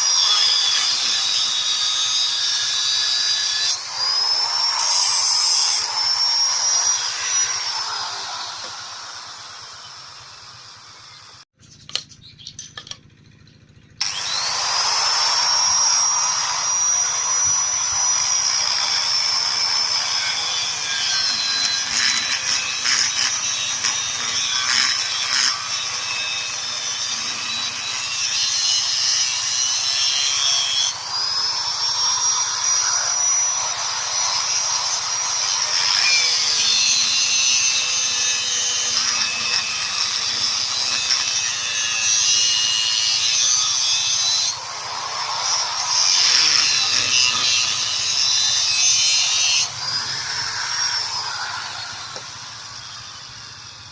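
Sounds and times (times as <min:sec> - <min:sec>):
angle grinder whine: 0:00.0 - 0:11.4, 0:13.8 - 0:53.9
grinder grinding metal: 0:00.0 - 0:11.4, 0:14.0 - 0:53.9.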